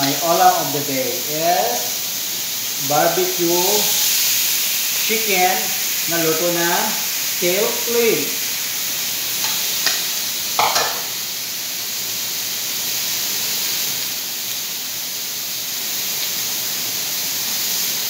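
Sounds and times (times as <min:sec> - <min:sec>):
chicken sizzling on hot plate: 0:00.0 - 0:18.0.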